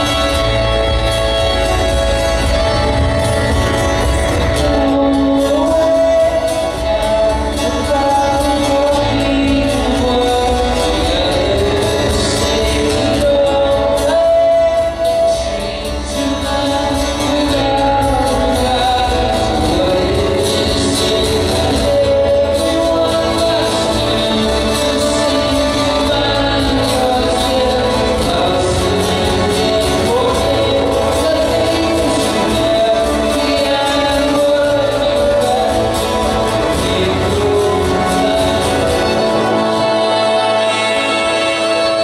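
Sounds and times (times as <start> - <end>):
low bass: 0.0 - 41.9
acoustic guitar: 0.0 - 42.0
man singing into microphone: 0.0 - 42.0.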